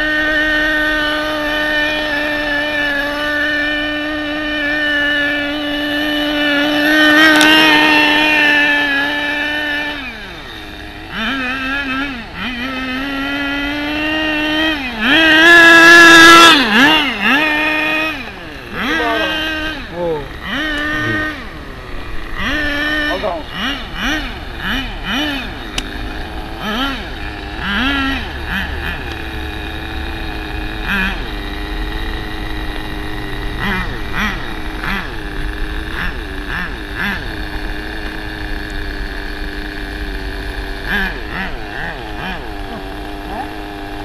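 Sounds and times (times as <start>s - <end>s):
small nitro engine revving: 0.0s - 44.0s.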